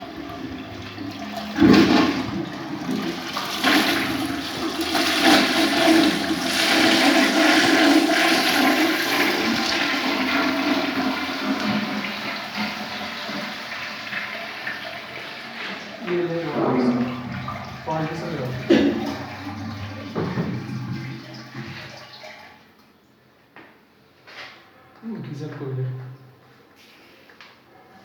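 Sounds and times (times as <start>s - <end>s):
water rushing through plumbing: 0.0s - 23.0s.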